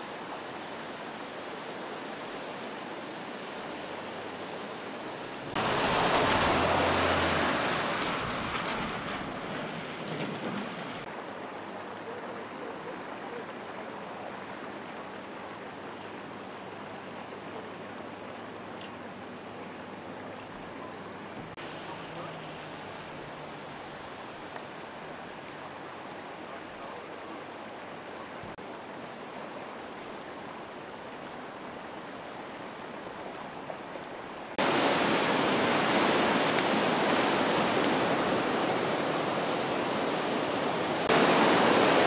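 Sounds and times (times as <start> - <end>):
floodwater rushing: 0.0 - 42.0
river churning: 0.0 - 42.0.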